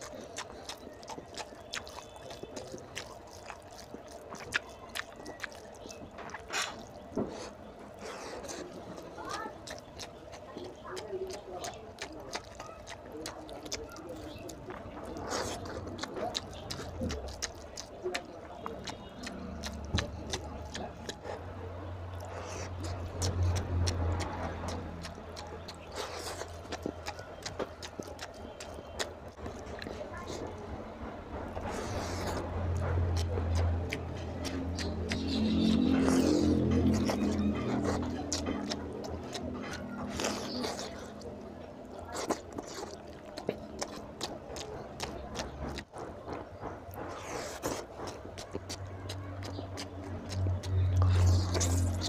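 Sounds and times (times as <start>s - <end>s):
food squelching in fingers: 0.0s - 52.0s
wet chewing and lip-smacking: 0.0s - 52.0s.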